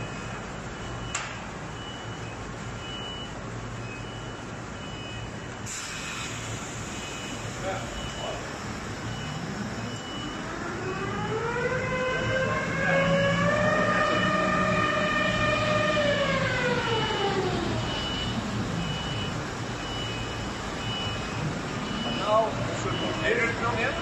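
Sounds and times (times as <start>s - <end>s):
low factory hum: 0.0s - 24.0s.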